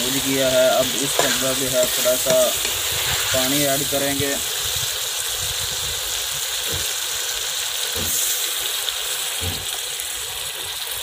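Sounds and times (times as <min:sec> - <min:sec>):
water sizzling in hot pot: 0:00.0 - 0:11.0.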